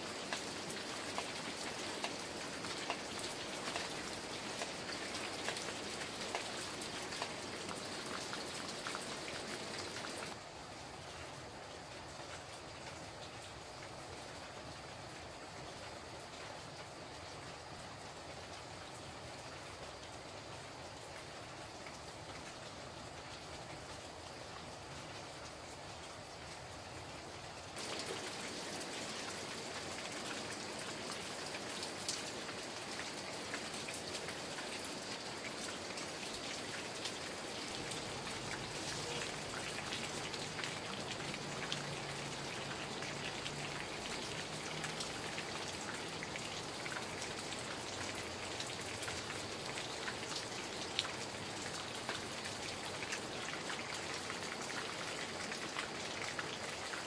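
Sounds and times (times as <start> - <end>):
rain pattering on foliage: 0.0 - 57.0.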